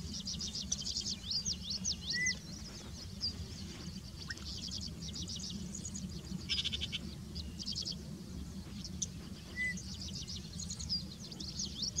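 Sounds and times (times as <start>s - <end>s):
small birds chirping and trilling: 0.0s - 12.0s
steady low rumble: 0.0s - 12.0s.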